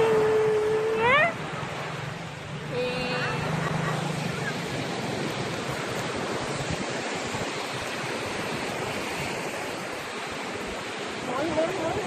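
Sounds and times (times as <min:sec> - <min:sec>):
waves washing in: 0:00.0 - 0:12.0.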